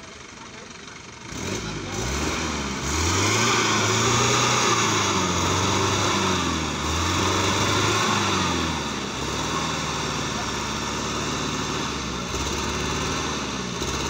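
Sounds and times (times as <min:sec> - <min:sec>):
buggy engine revving: 0:00.0 - 0:14.0
driving through water: 0:00.0 - 0:14.0.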